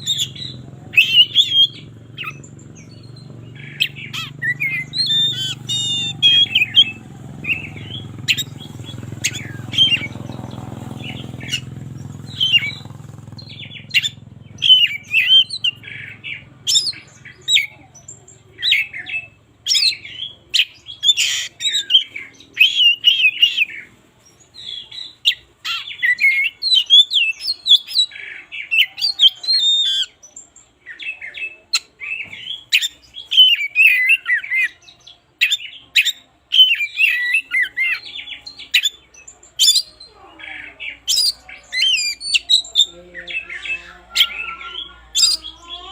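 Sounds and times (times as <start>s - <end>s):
bird singing whistles and chirps: 0.0s - 23.9s, 24.5s - 45.9s.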